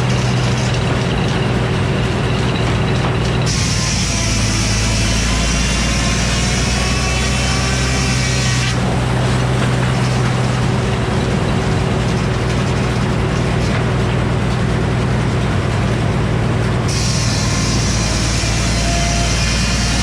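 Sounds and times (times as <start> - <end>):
circular saw cutting log: 0.0 - 13.9, 16.8 - 20.0.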